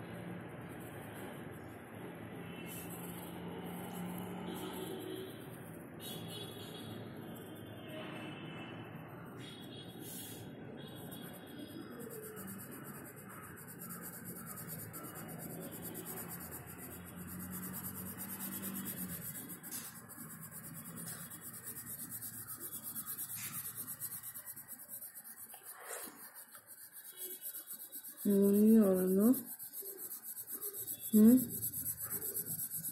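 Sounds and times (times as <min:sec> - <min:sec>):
pencil shading on paper: 0:02.5 - 0:06.8, 0:09.4 - 0:32.9.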